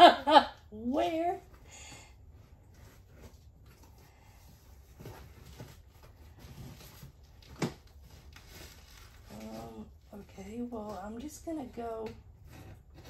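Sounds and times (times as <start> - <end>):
cardboard box rustling: 2.4 - 13.0.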